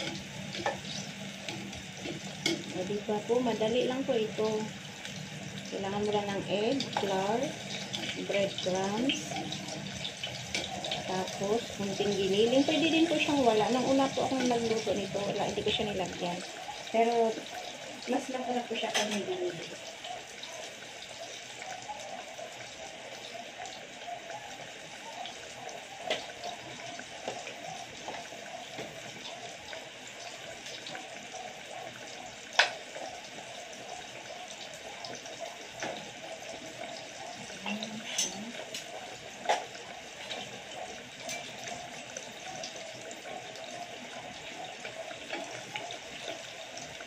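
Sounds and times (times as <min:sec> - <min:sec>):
oil sizzling in saucepan: 0:00.0 - 0:47.0.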